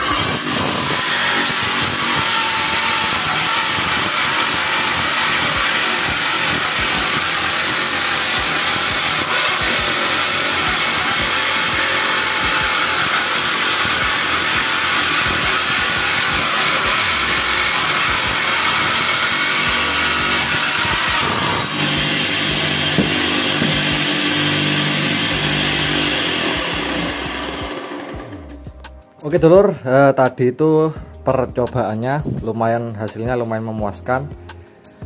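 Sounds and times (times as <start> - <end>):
table saw ripping wood: 0.0 - 29.0.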